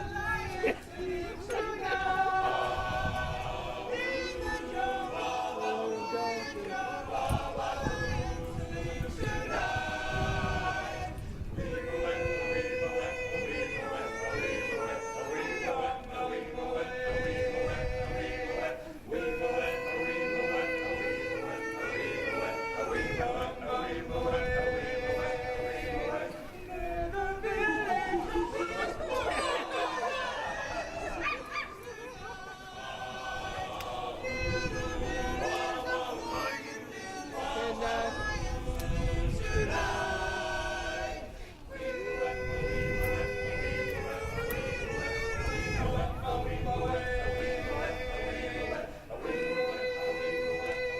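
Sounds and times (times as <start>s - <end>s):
male ensemble singing a cappella: 0.0s - 50.9s.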